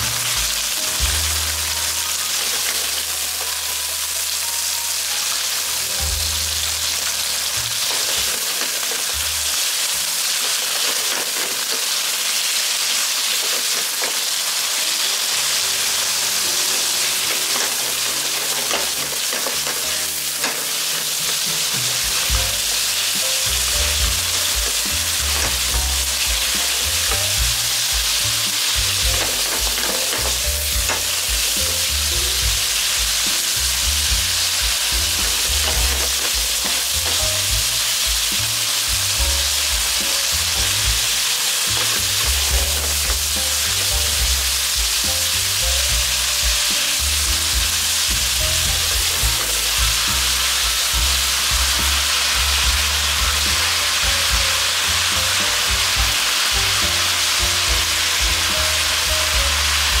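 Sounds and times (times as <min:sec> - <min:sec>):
chopsticks stirring in a wok: 0:00.0 - 1:00.0
pork sizzling in a wok: 0:00.0 - 1:00.0.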